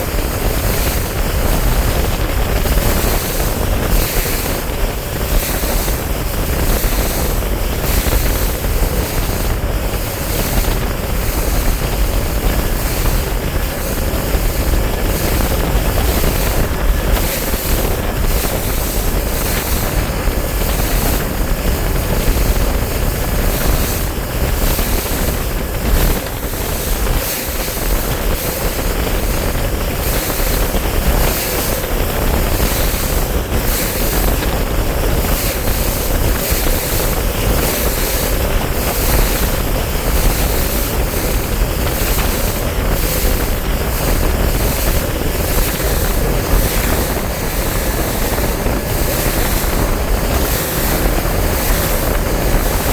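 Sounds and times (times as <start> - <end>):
outboard motor drone: 0.0 - 52.9
wind buffeting microphone: 0.0 - 52.9.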